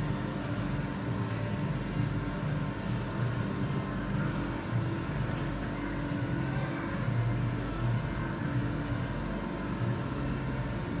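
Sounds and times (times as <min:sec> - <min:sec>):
aquarium pumps humming: 0:00.0 - 0:11.0.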